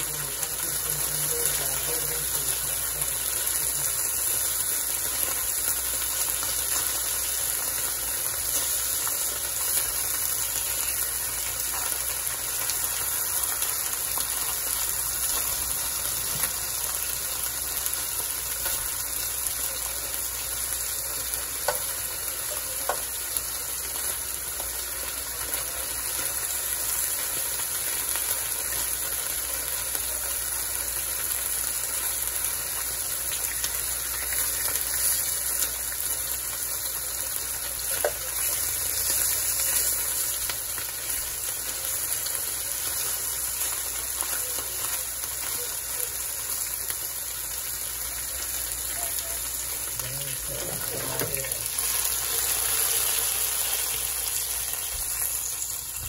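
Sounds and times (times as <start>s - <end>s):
meat sizzling in a frying pan: 0.0s - 56.0s.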